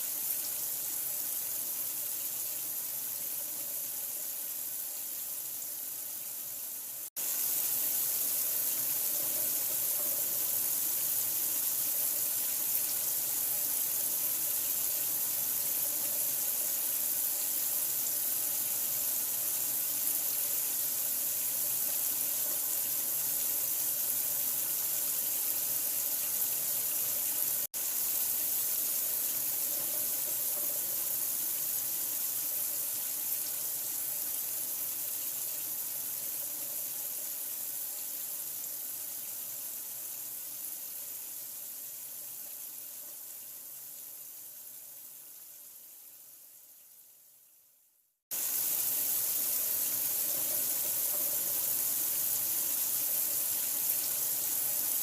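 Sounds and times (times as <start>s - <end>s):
running water hissing: 0.0s - 47.3s, 48.3s - 55.0s.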